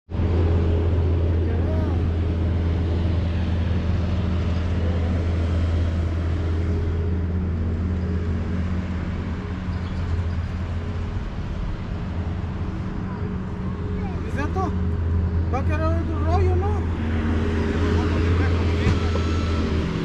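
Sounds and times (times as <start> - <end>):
diesel engine humming: 0.1 - 20.0.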